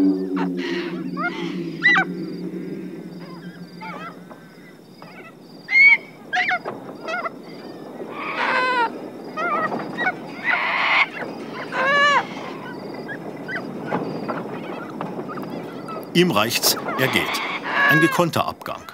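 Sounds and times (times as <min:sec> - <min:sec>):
birds screeching: 0:00.0 - 0:18.9
low background noise: 0:00.0 - 0:18.9.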